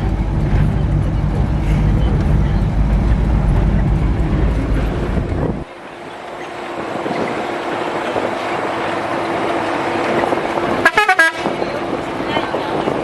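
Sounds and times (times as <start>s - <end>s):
bus running noise with hum: 0.0s - 13.0s
low engine rumble: 0.0s - 13.0s
wind buffeting microphone: 0.0s - 13.0s.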